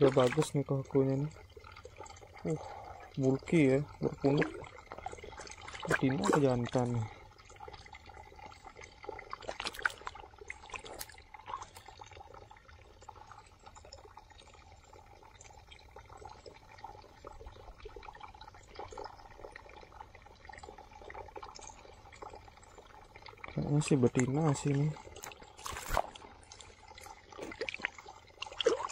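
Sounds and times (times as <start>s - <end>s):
pond water splashing and lapping: 0.0s - 28.9s.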